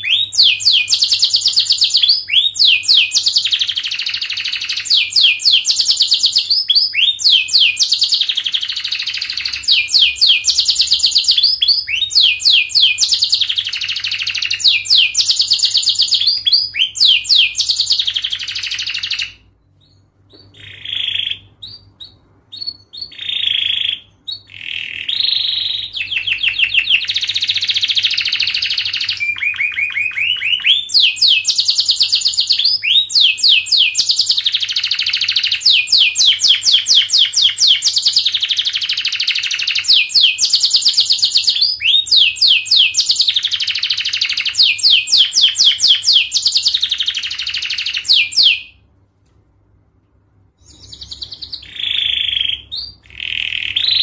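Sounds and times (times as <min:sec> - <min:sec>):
canary singing trills: 0:00.0 - 0:48.8, 0:50.6 - 0:54.0.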